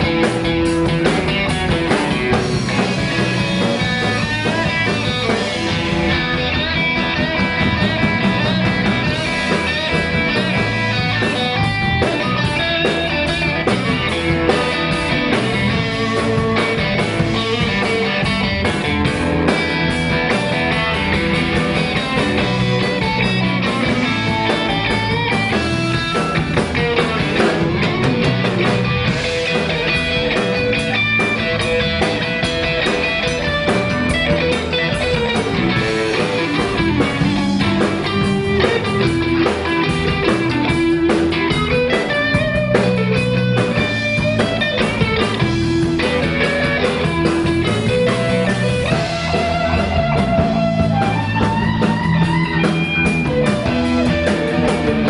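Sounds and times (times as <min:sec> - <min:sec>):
blues band playing: 0:00.0 - 0:55.0.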